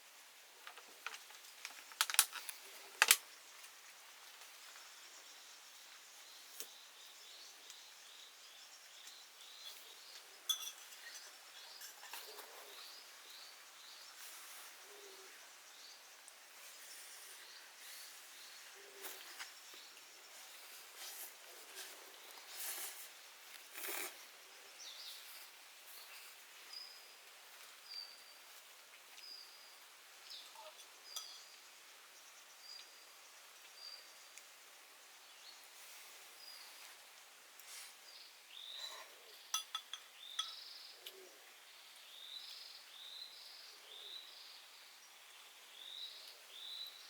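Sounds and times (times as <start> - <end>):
rain and forest hiss: 0.0 - 47.0.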